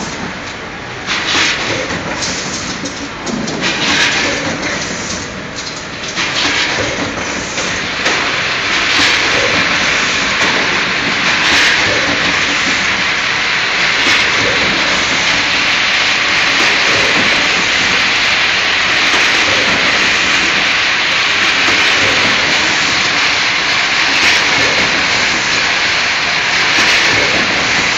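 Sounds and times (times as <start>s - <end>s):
packing machine hissing: 0.0s - 27.9s.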